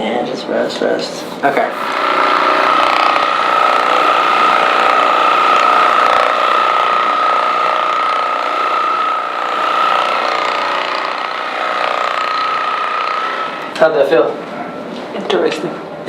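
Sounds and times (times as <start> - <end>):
massage gun motor whine: 1.4 - 15.9.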